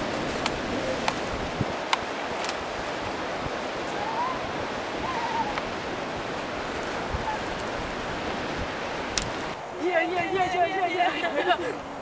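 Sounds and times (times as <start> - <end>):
surf washing over rocks: 0.0 - 12.0.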